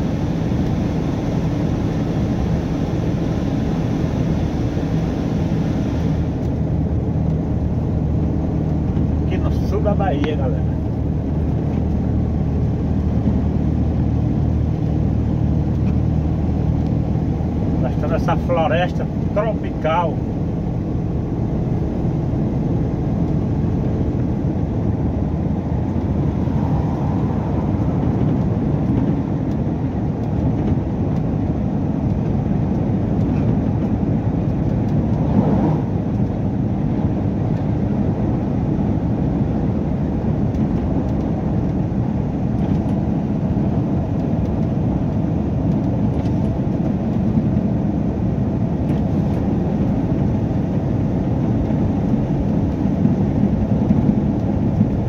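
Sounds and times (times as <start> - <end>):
road noise: 0.0 - 55.0
truck engine rumble: 0.0 - 55.0.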